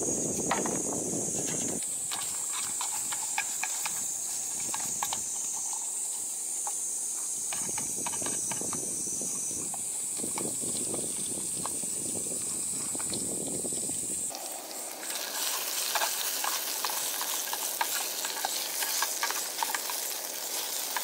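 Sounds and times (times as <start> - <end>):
onion and bacon sizzling: 0.0 - 21.0.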